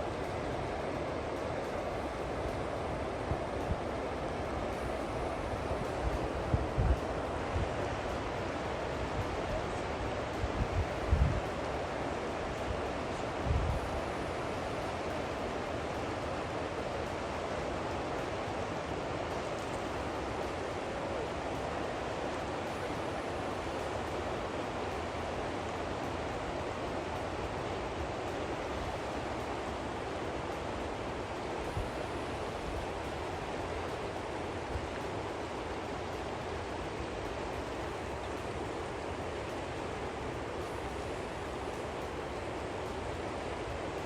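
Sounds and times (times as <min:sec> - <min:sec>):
river current rushing: 0:00.0 - 0:44.0.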